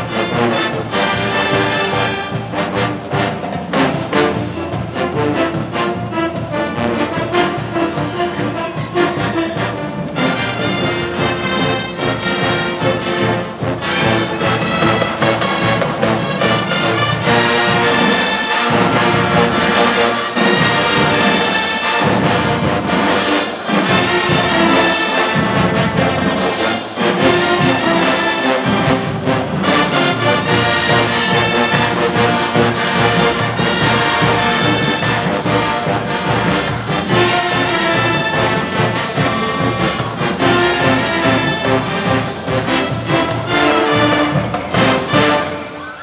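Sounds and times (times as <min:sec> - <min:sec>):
marching band playing: 0:00.0 - 0:46.0.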